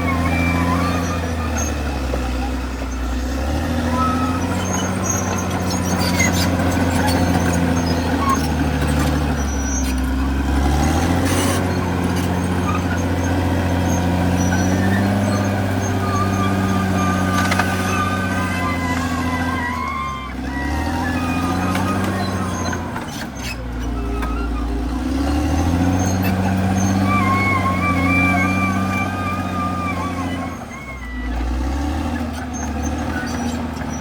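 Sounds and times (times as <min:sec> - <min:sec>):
bulldozer diesel engine running: 0:00.0 - 0:34.0
wavering high squeaks: 0:00.0 - 0:34.0.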